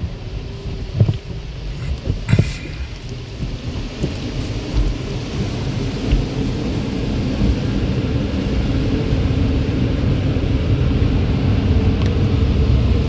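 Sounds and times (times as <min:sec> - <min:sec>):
car wash machinery rumbling: 0:00.0 - 0:13.0.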